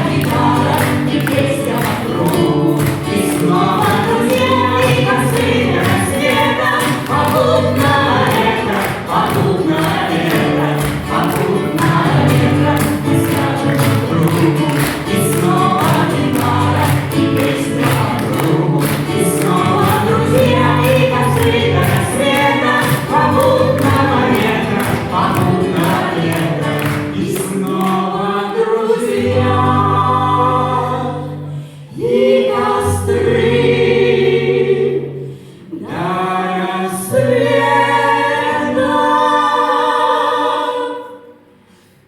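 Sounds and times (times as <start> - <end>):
several voices singing: 0.0 - 41.8.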